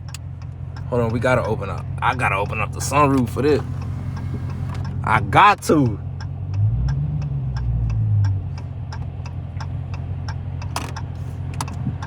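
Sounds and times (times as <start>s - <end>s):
car engine idling and revving: 0.0s - 12.0s
turn signal relay ticking: 0.0s - 12.0s.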